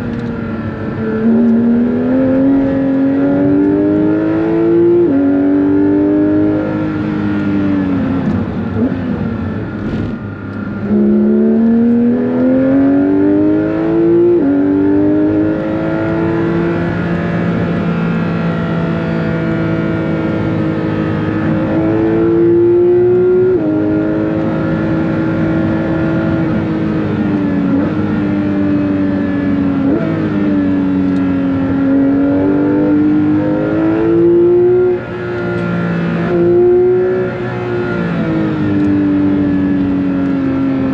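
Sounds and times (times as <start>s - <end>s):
sports car engine accelerating: 0.0s - 40.9s.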